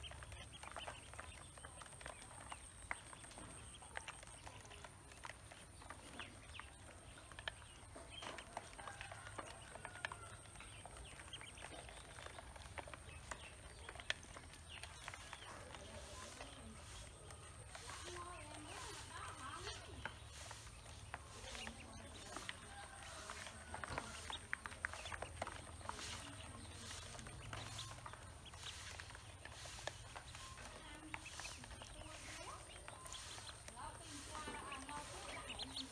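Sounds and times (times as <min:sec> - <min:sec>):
beaks ticking on plastic: 0:00.0 - 0:35.9
ducklings peeping: 0:00.0 - 0:35.9.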